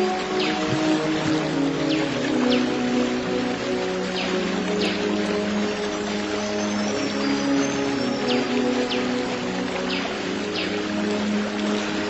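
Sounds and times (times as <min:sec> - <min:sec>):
nature sound hiss: 0:00.0 - 0:12.0
soft ambient music: 0:00.0 - 0:12.0.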